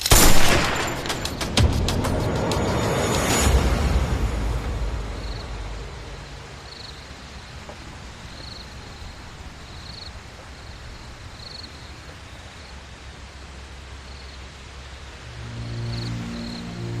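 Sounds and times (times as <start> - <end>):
steady hiss: 0.0 - 17.0
insect chirping: 2.7 - 17.0.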